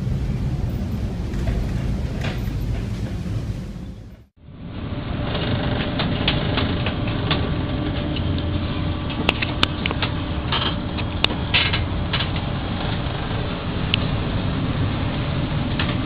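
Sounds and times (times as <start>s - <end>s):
ship engine droning: 0.0s - 16.0s.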